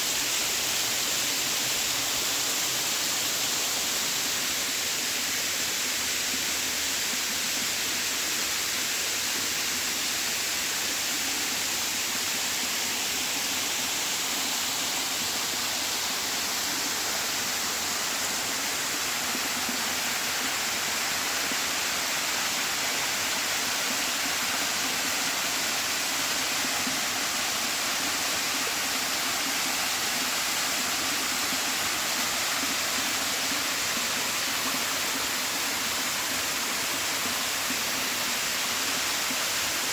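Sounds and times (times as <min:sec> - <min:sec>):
creek water cascading over rocks: 0:00.0 - 0:39.9.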